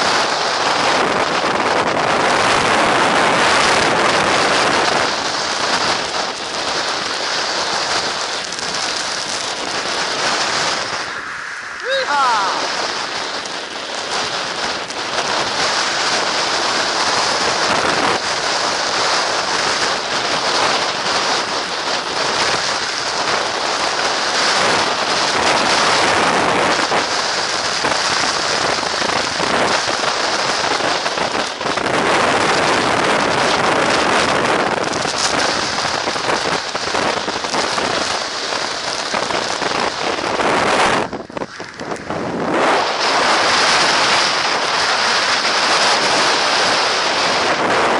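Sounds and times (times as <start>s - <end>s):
strong wind on microphone: 0.0s - 47.9s.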